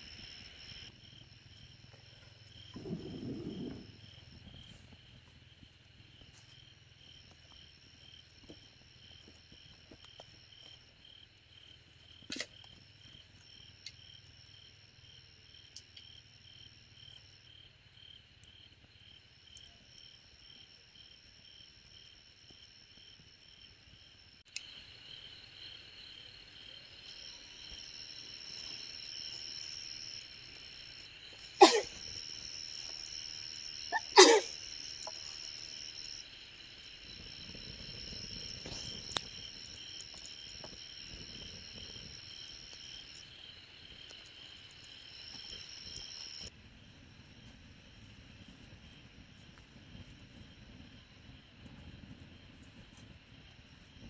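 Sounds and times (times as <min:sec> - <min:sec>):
cricket chirping: 0:00.0 - 0:54.0
high insect trill: 0:00.0 - 0:54.0.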